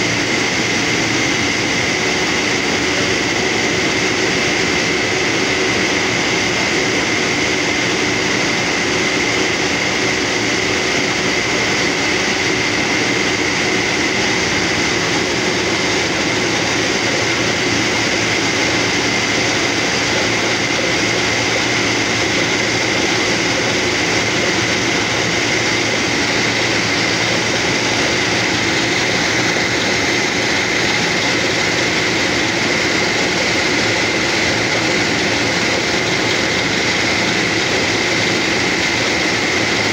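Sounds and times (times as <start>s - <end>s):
drilling rig running: 0.0s - 39.9s.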